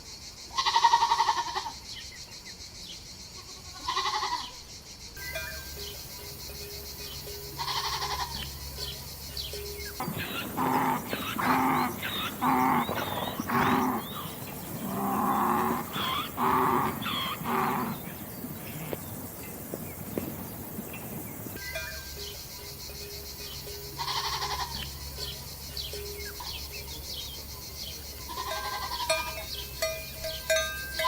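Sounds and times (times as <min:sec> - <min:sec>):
farm animals calling: 0:00.5 - 0:01.8, 0:03.4 - 0:04.6, 0:05.2 - 0:31.0.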